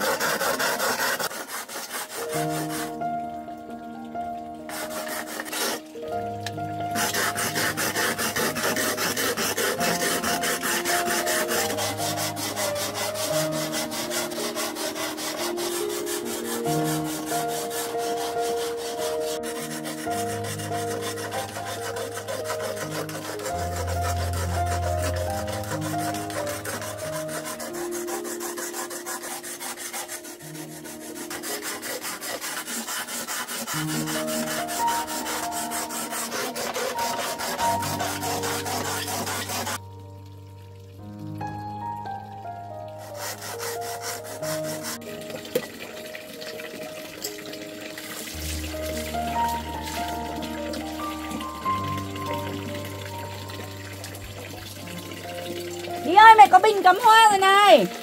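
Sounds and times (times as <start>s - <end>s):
rapid rasping strokes: 0.0s - 3.0s, 4.7s - 6.1s, 6.9s - 39.8s, 43.0s - 58.0s.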